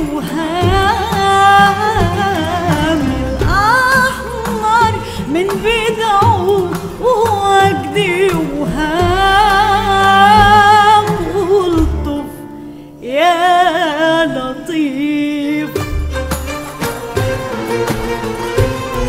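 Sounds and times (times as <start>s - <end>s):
woman singing with vibrato: 0.0s - 15.9s.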